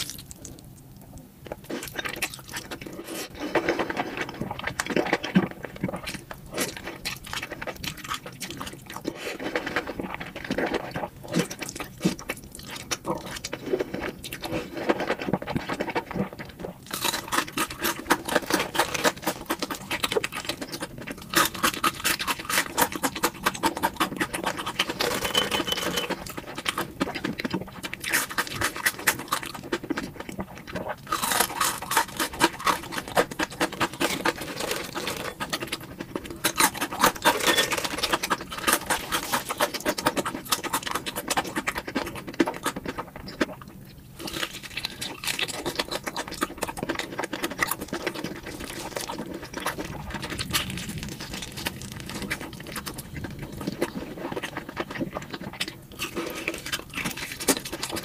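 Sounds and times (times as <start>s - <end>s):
wet chewing clicks: 0.0s - 58.0s.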